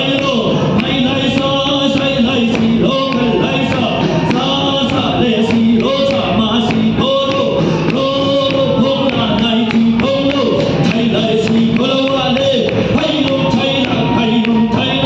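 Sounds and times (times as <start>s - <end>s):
drum beat: 0.0s - 15.0s
group singing a hymn: 0.0s - 15.0s.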